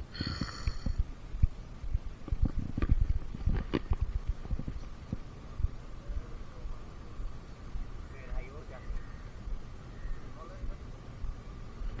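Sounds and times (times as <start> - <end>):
faint steady hum: 0.0 - 12.0
wind buffeting microphone: 0.0 - 12.0.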